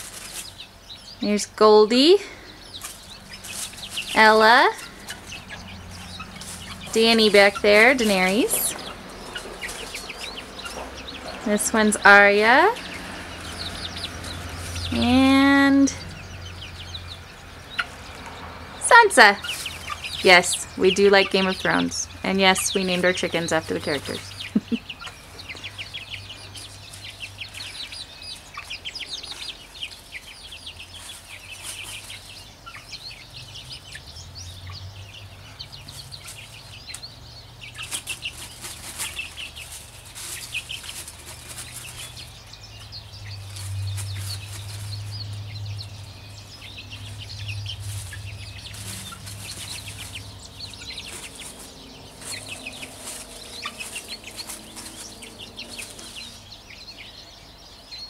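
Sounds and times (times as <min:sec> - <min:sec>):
hens calling: 0:00.0 - 0:57.6.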